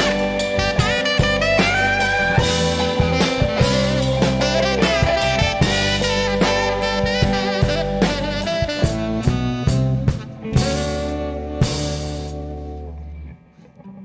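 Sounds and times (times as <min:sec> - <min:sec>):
drum kit hits: 0:00.0 - 0:12.3
held melody notes: 0:00.0 - 0:13.3
sustained bass line: 0:00.0 - 0:13.4.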